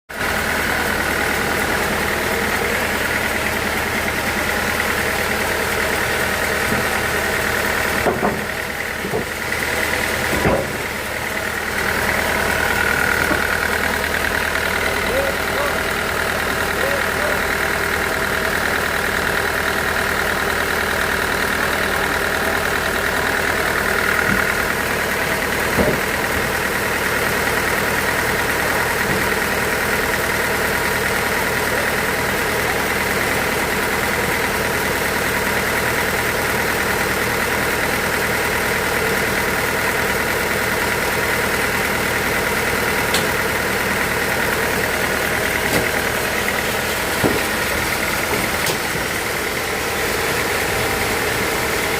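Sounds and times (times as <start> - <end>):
sawmill machinery humming: 0.1 - 51.9.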